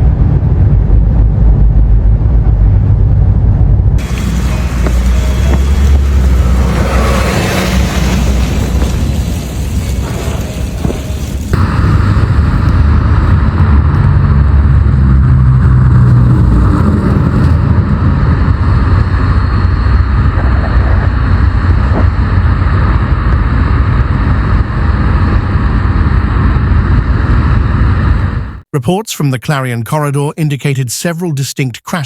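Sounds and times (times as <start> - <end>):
vehicle engine and tyre rumble: 0.0 - 28.6.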